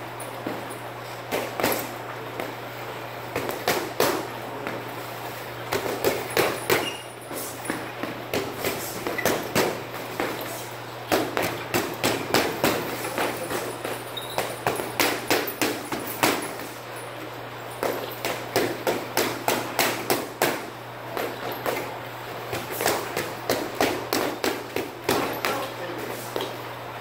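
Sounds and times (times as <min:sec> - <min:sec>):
steady low hum: 0:00.0 - 0:27.0
boxing gloves slapping mitts: 0:01.3 - 0:02.6, 0:03.3 - 0:04.9, 0:05.7 - 0:16.8, 0:17.8 - 0:21.9, 0:22.5 - 0:26.6.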